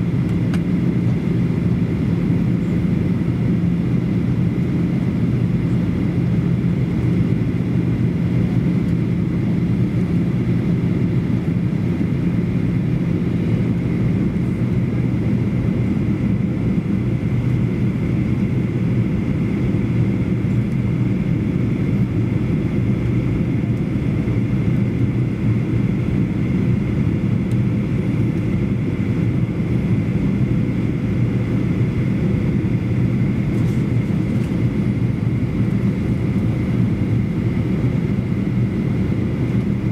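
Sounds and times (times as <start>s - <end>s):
jet engine drone and airflow: 0.0s - 39.9s.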